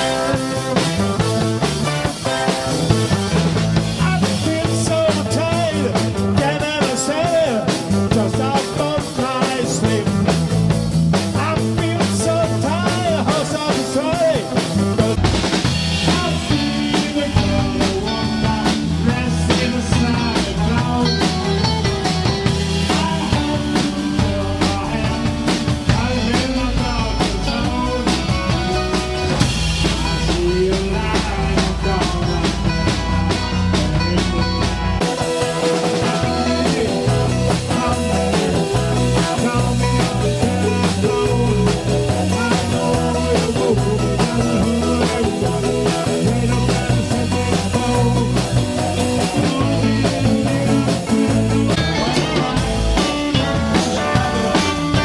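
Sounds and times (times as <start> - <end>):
heavy bass: 0.0 - 55.0
live rock band playing: 0.0 - 55.0.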